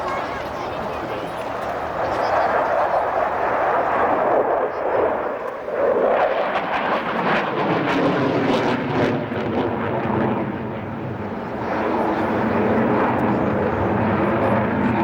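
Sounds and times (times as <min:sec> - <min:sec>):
jet aircraft engine roar: 0:00.0 - 0:15.0.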